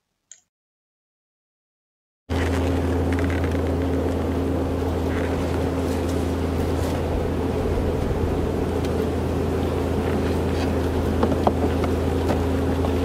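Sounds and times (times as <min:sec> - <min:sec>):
tractor engine droning: 0:02.3 - 0:13.0.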